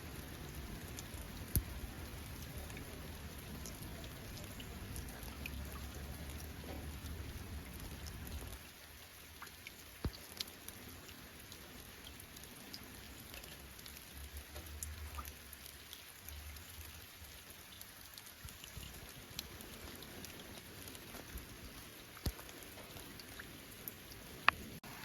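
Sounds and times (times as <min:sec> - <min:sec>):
light rain pattering: 0:00.0 - 0:25.0.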